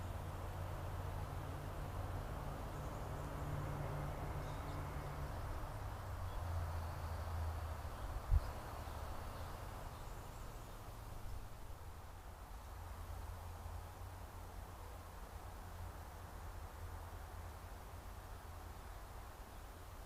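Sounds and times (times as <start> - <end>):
soft hiss: 0.0 - 20.0.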